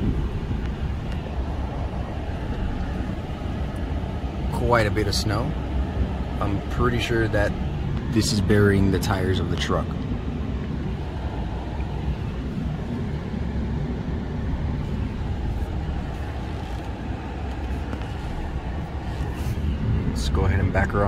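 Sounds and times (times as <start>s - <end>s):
truck engine low rumble: 0.0s - 21.0s.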